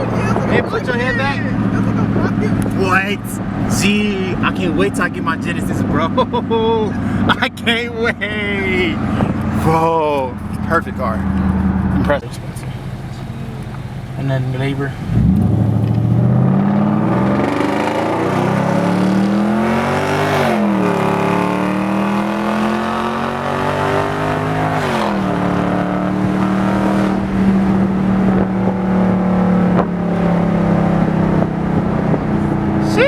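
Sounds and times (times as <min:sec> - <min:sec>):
car engine accelerating: 0:00.0 - 0:33.0.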